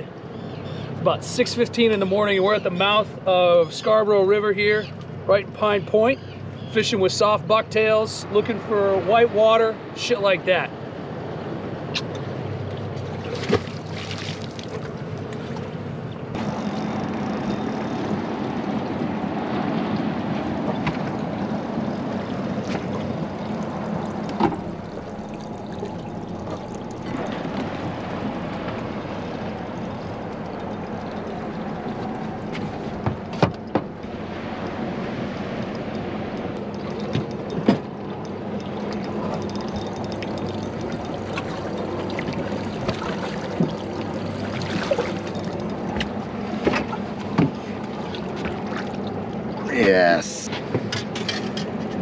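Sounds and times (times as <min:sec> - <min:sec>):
wind and water rumble: 0:00.0 - 0:52.0.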